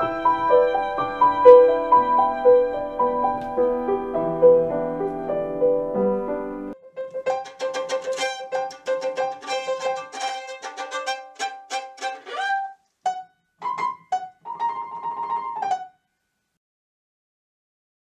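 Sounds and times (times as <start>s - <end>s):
violin and piano music: 0.0s - 15.9s.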